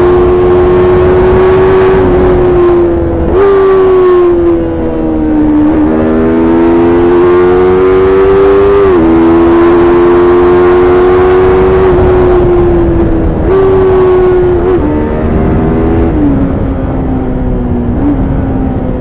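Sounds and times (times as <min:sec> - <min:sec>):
wind and road rumble: 0:00.0 - 0:19.0.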